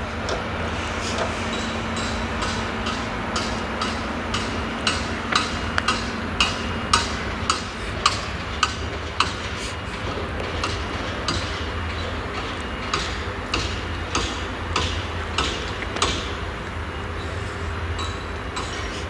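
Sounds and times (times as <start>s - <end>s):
combine harvester engine rumble: 0.0s - 19.0s
regular metallic ticking: 1.5s - 17.1s.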